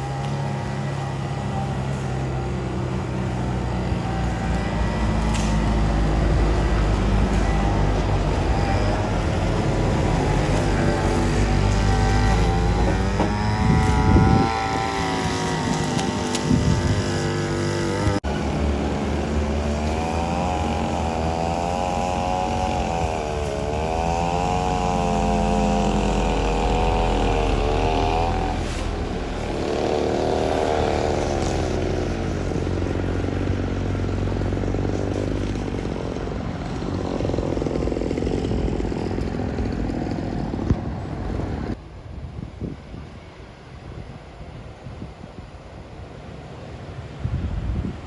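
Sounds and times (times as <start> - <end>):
truck engine labouring uphill: 0.0 - 41.8.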